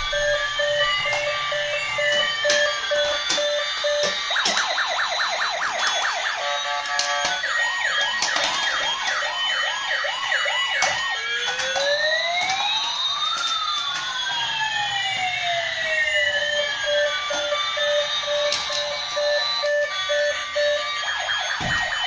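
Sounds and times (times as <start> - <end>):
toy police siren warbling: 0.0 - 22.0.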